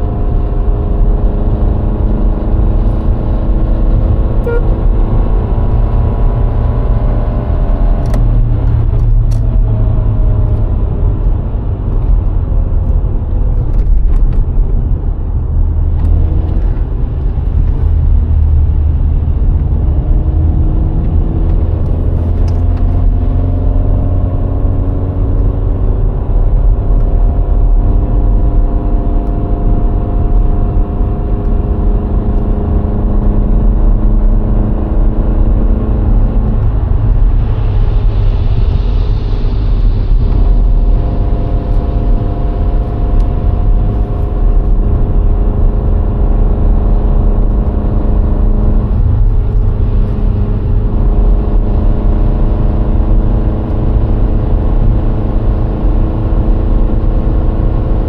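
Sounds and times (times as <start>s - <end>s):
car engine running while driving: 0.0s - 58.0s
low road rumble: 0.0s - 58.0s.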